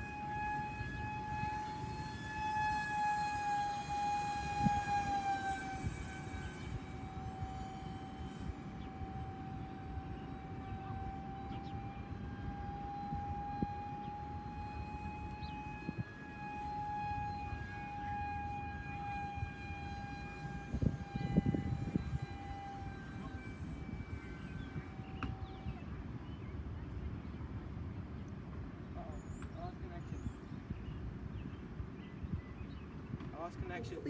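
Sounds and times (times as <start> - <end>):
electric fan whining: 0.0 - 34.0
wind rumble on microphone: 3.5 - 16.3, 17.1 - 34.0.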